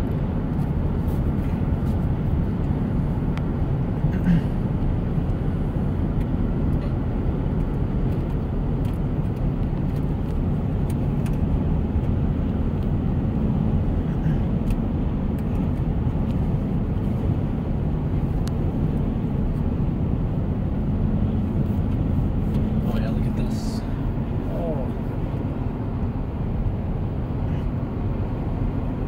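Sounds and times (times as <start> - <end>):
car interior road rumble: 0.0 - 29.0.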